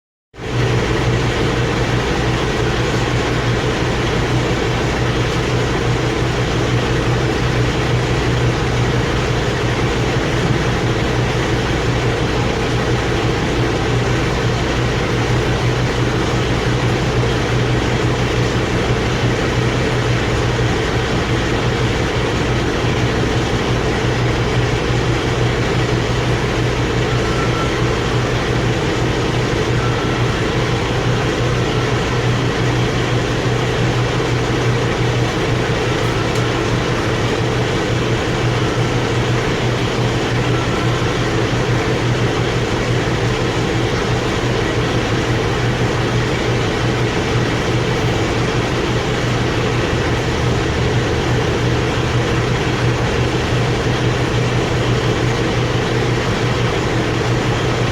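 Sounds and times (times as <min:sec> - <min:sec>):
mechanical drone: 0:00.6 - 0:57.9.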